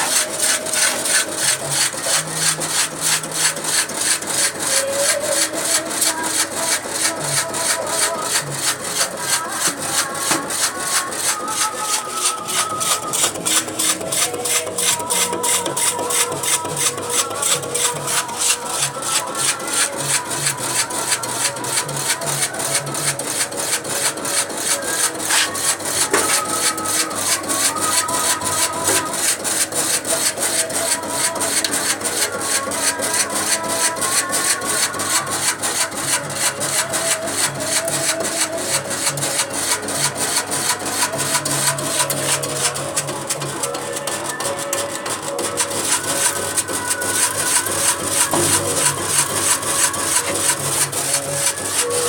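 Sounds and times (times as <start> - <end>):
slicing machine cutting: 0.0 - 52.0.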